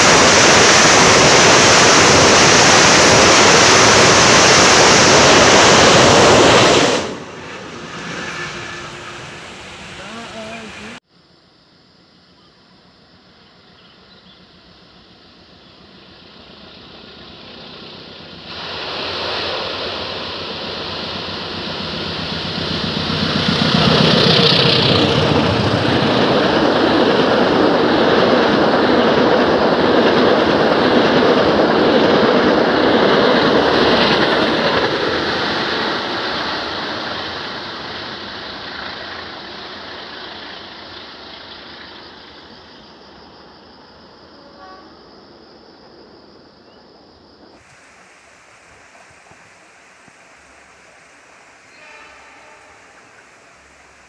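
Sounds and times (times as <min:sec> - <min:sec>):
passenger train passing: 0:00.0 - 0:54.0.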